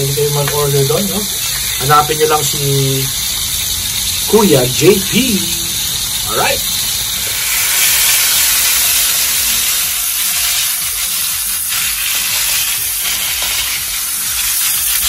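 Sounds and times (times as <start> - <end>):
steaks sizzling in a frying pan: 0.0 - 15.0.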